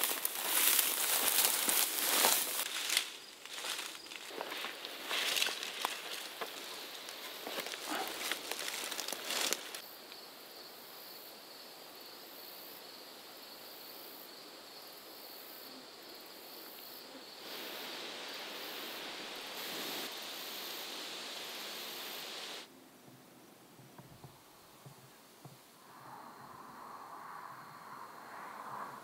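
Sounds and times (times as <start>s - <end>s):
insects chirping: 0.0s - 24.9s, 25.7s - 29.0s
steady outdoor hiss: 0.0s - 29.0s.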